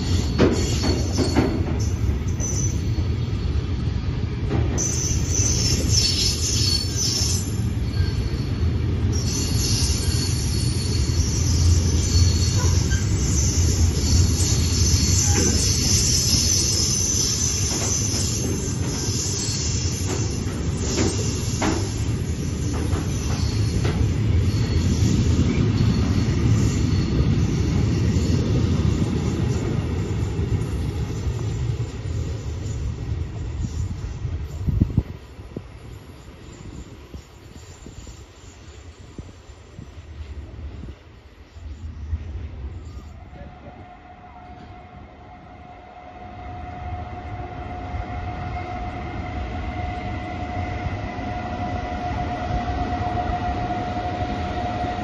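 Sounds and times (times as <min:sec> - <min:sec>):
high-pitched metallic squeal: 0:00.0 - 0:03.9, 0:04.7 - 0:34.3, 0:42.7 - 0:55.0
train wheels rumbling on rail: 0:00.0 - 0:55.0.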